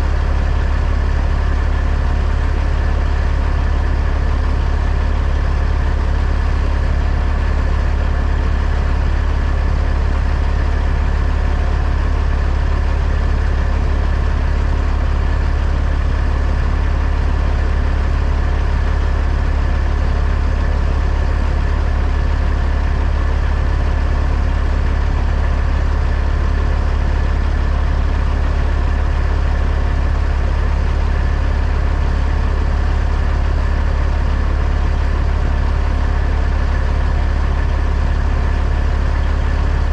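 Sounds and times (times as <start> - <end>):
truck engine deep drone: 0.0 - 39.9.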